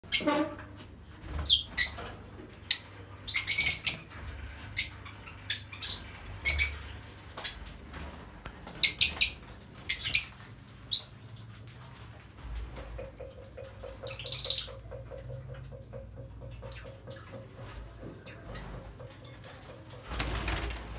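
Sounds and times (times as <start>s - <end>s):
lovebirds chirping and squawking: 0.0s - 0.5s, 1.2s - 11.5s, 13.0s - 20.7s.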